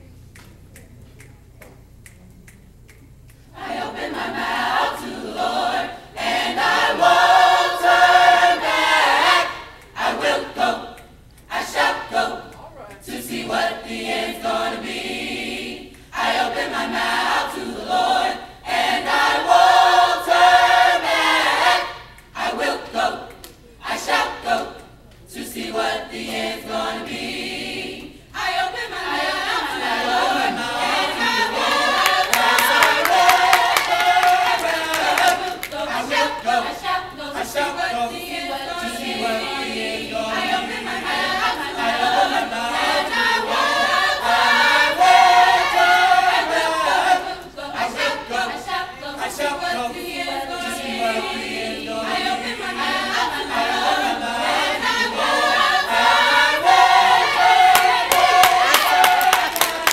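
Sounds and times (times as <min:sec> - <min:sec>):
mixed choir singing a cappella: 0:03.5 - 0:59.9.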